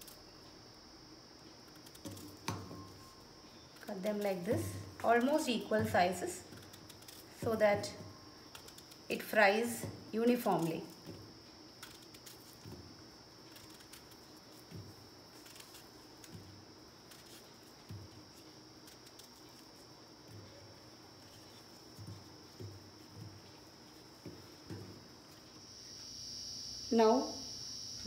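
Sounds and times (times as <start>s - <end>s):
faint high-pitched whine: 0.0s - 28.0s.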